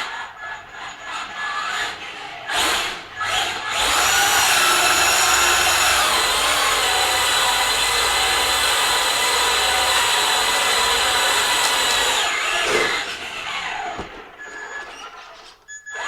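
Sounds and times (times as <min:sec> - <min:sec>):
toy car motor whine: 0:00.0 - 0:16.0.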